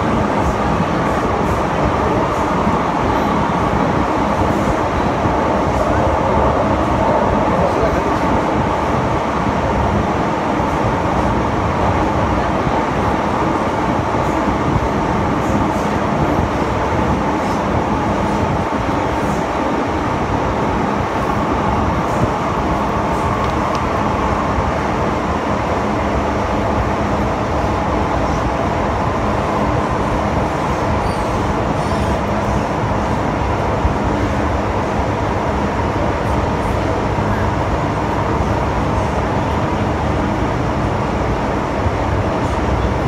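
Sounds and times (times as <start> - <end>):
train rumble and hiss: 0.0 - 43.0.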